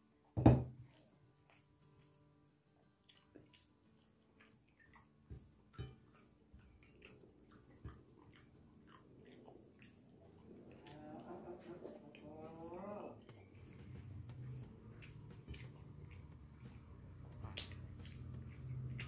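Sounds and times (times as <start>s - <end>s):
chewing: 0.8s - 19.0s.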